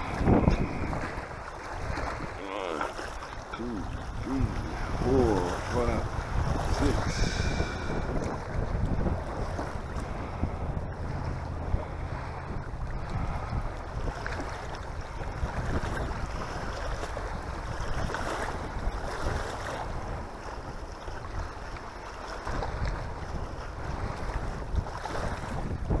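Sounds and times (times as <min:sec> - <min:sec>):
lake water washing: 0:00.0 - 0:26.0
wind buffeting microphone: 0:00.0 - 0:26.0.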